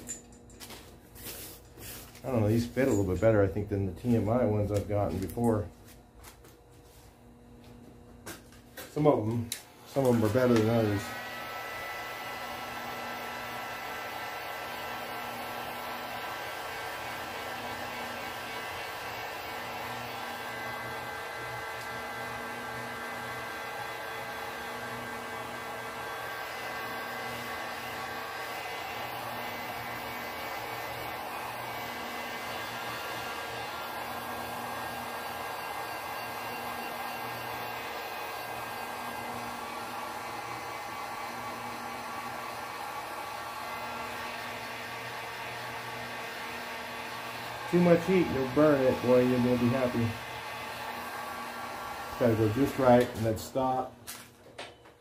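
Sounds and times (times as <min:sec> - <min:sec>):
heat gun blowing air: 0:00.0 - 0:05.5, 0:08.2 - 0:54.3.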